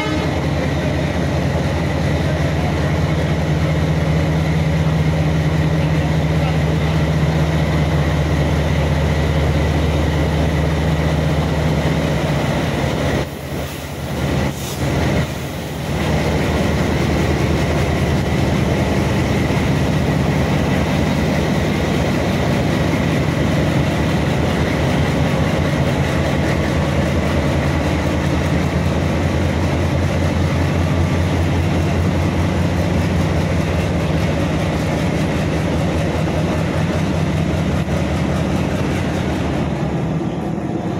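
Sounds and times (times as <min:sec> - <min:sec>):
diesel locomotive engines humming: 0:00.0 - 0:40.9.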